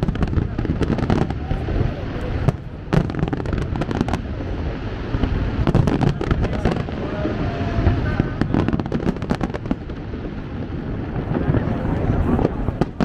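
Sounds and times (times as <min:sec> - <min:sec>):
crackling pops of fireworks: 0:00.0 - 0:13.0
fireworks bangs: 0:00.0 - 0:13.0
low rumble of explosions: 0:00.0 - 0:13.0.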